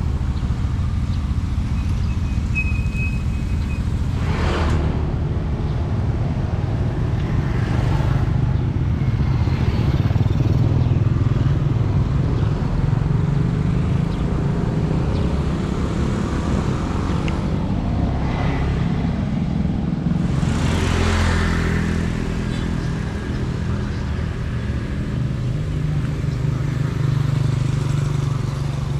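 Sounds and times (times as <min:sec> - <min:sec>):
motorcycles and cars passing: 0:00.0 - 0:28.9.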